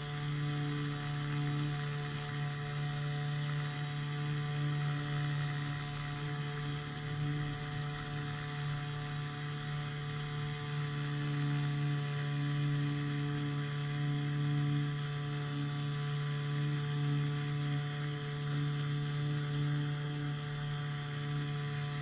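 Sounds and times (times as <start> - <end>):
small piston engine droning: 0.0 - 22.0.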